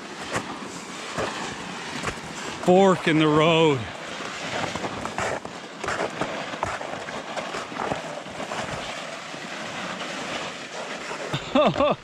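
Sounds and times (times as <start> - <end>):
footsteps in wet snow and mud: 0.0 - 3.1, 4.1 - 12.0
sleds scraping along: 0.0 - 12.0.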